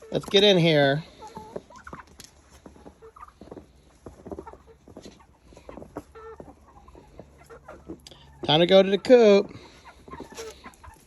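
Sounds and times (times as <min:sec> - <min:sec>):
chickens and turkeys clucking: 0:00.0 - 0:11.0.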